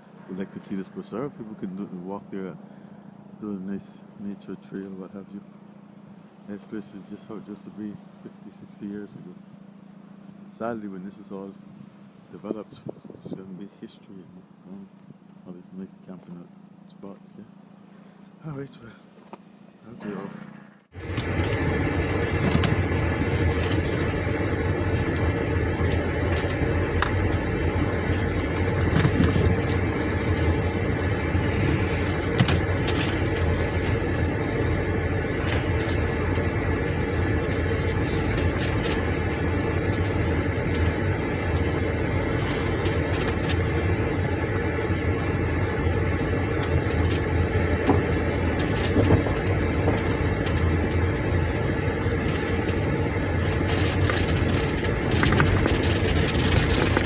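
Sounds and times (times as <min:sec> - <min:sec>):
car engine hum: 0:00.0 - 0:12.7, 0:13.5 - 0:57.0
road noise: 0:00.0 - 0:13.1, 0:14.2 - 0:57.0.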